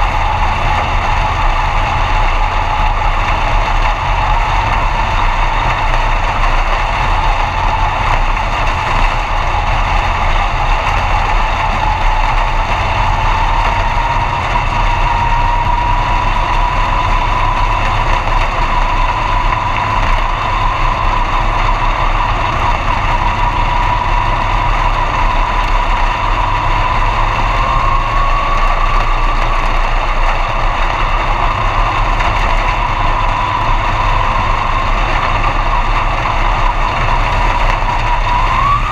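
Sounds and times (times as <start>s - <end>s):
high whine: 0.0s - 38.9s
race car engine running: 0.0s - 38.9s.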